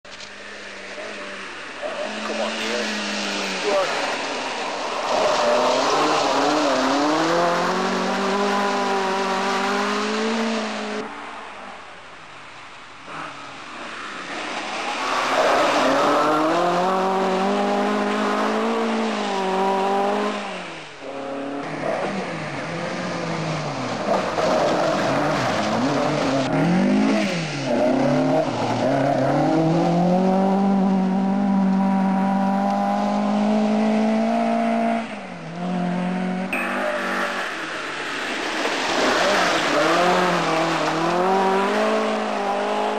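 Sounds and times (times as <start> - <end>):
rally car engine revving: 0.7 - 11.1, 15.1 - 42.9.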